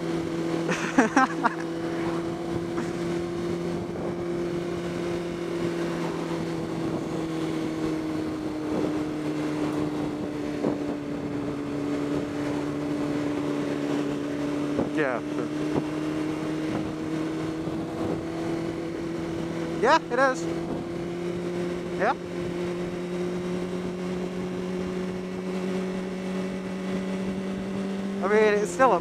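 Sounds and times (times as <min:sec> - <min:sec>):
motorcycle engine cruising: 0:00.0 - 0:29.0
wind noise: 0:01.9 - 0:19.6, 0:20.5 - 0:28.0.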